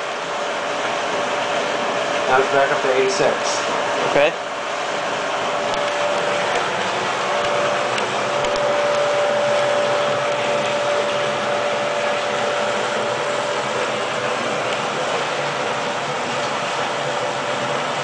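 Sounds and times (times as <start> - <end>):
steady whine: 0.0 - 18.0
water heater whirring: 0.0 - 18.0.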